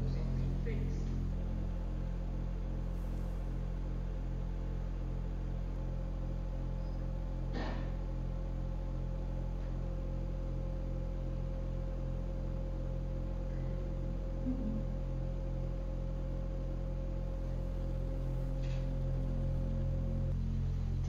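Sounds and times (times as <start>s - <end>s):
low electronic drone: 0.0s - 21.0s.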